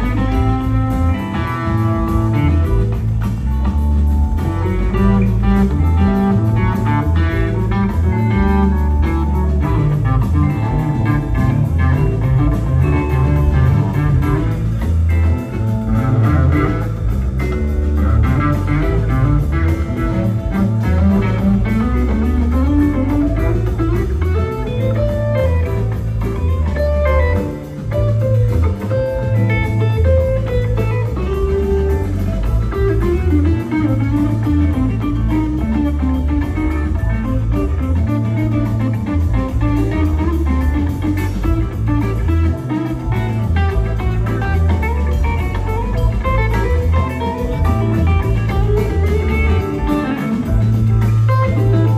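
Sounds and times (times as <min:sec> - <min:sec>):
bass guitar: 0:00.0 - 0:51.9
drums: 0:00.0 - 0:51.9
electric guitars: 0:00.0 - 0:51.9.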